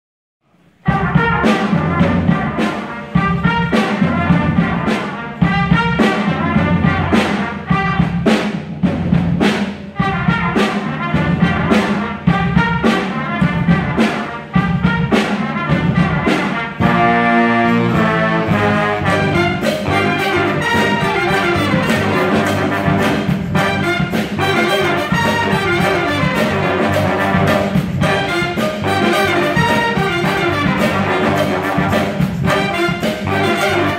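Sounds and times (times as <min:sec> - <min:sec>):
jazz big band playing: 0:00.5 - 0:33.9.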